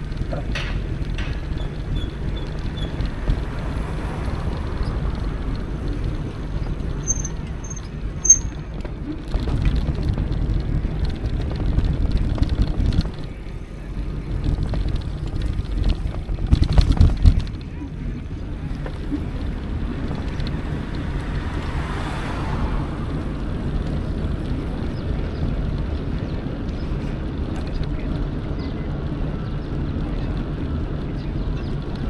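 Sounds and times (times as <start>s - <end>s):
tyre noise: 0.0s - 27.8s
electric bike riding rumble: 0.0s - 32.0s
wind on microphone: 0.0s - 32.0s.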